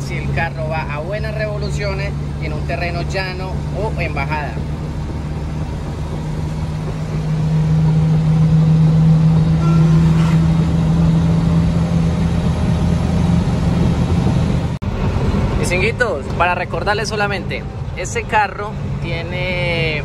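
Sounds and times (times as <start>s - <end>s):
truck engine drone from cab: 0.0s - 20.0s.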